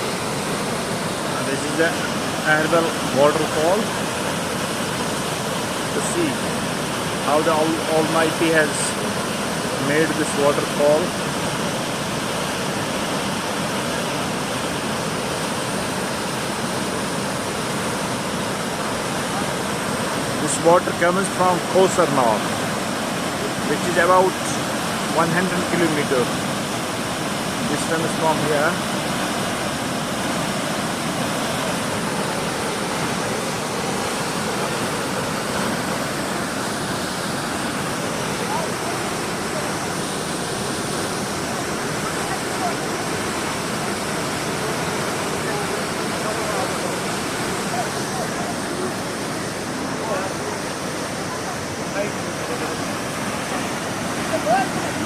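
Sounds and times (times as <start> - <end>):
large waterfall crashing: 0.0 - 55.0.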